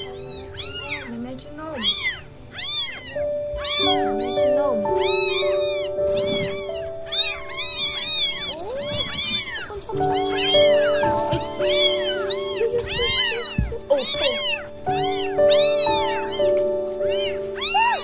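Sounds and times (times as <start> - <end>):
background music of held notes: 0.0 - 18.0
kittens meowing: 0.0 - 18.0.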